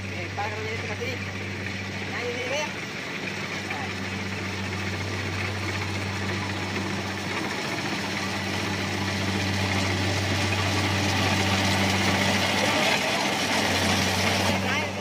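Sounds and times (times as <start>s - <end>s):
harvester engine running: 0.0s - 15.0s.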